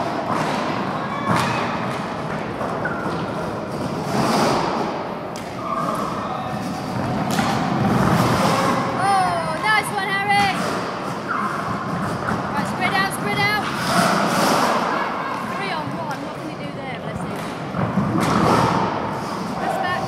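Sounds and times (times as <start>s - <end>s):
roller skates rolling on floor: 0.0s - 20.0s.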